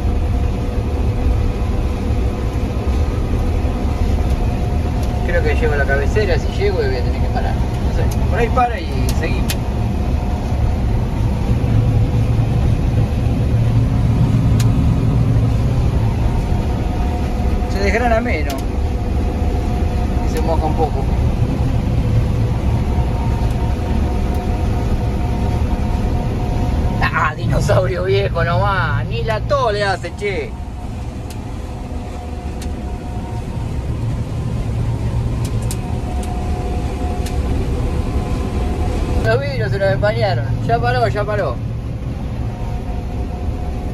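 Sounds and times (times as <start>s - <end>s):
combine harvester engine humming: 0.0s - 43.9s
faint steady whine: 0.0s - 43.9s.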